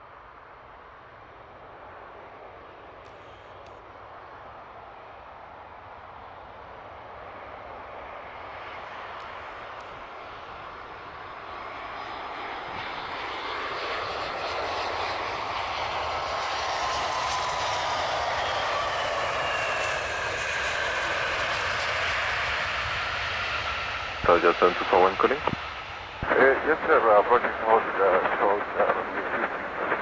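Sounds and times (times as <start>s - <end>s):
jet engines rushing: 0.1s - 30.0s.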